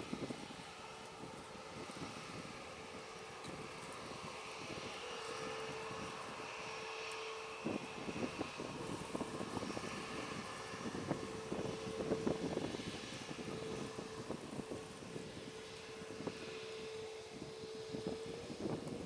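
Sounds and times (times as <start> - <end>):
jet engine hum: 0.0 - 19.0
wind buffeting microphone: 0.0 - 19.0.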